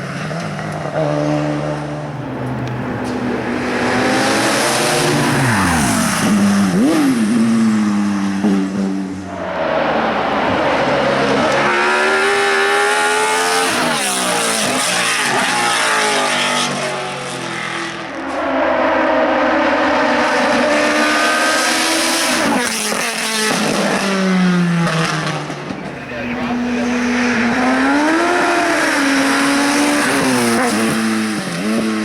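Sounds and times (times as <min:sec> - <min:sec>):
race car engine revving: 0:00.5 - 0:32.0.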